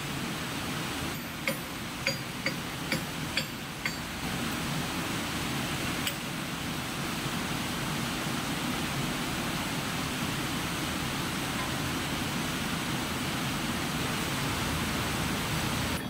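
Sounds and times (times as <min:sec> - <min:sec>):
steady machinery noise: 0:00.9 - 0:16.0.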